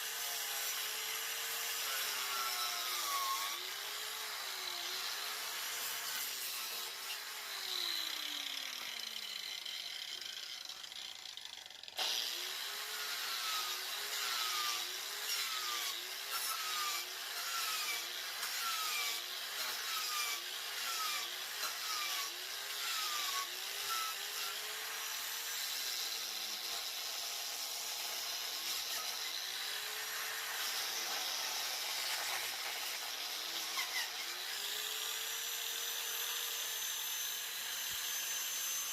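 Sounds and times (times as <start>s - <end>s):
angle grinder cutting wood: 0.0s - 38.9s.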